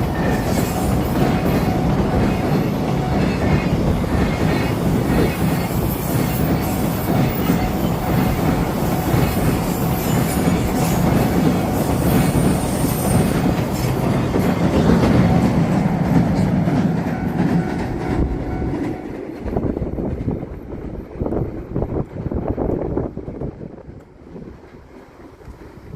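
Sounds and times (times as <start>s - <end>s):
freight train rolling past: 0.0s - 25.9s.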